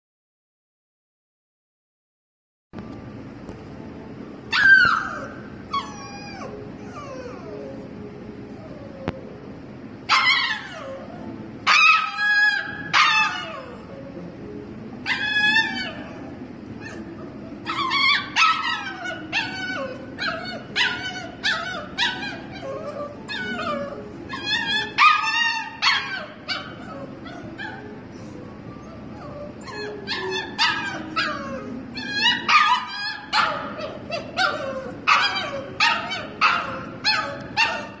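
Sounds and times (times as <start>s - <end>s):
puppy whining: 4.4s - 38.0s.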